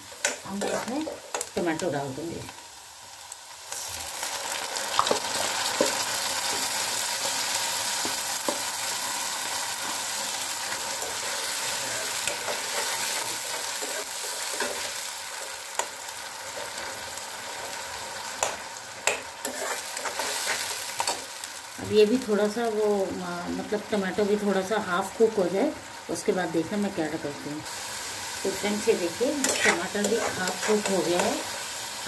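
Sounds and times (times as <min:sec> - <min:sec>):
oil sizzling in a pan: 0:00.0 - 0:32.0.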